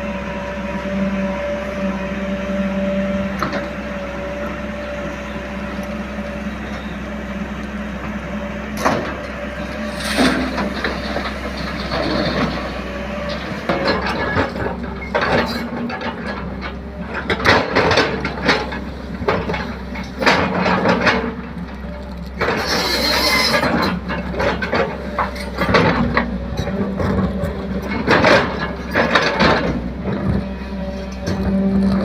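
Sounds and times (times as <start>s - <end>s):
diesel engine running: 0.0s - 32.0s
clattering scraping work noise: 3.2s - 6.9s, 8.0s - 32.0s.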